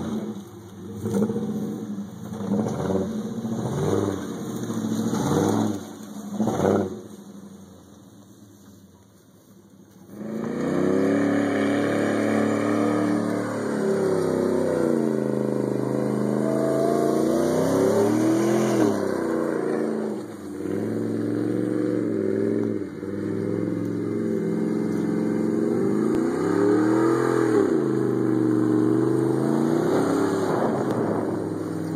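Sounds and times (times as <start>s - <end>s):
pickup truck engine revving: 0.0s - 7.2s, 10.2s - 31.9s.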